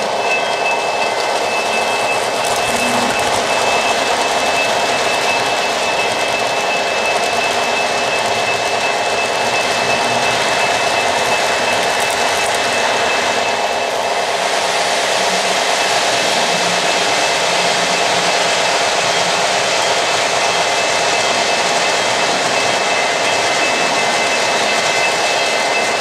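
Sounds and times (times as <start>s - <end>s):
model trains whirring on rails: 0.0s - 26.0s
thin high whine: 0.0s - 26.0s.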